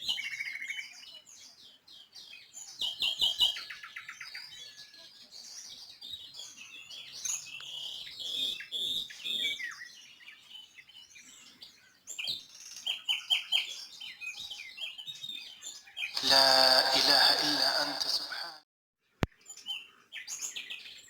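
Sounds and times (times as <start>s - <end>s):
birds chirping and twittering: 0.0s - 18.2s, 19.0s - 21.0s.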